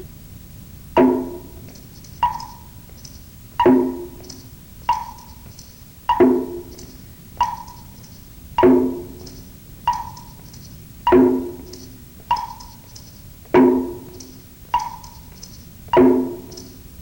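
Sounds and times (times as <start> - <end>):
high wood block knock: 1.0 - 16.8
low ringing block tone: 1.0 - 16.9.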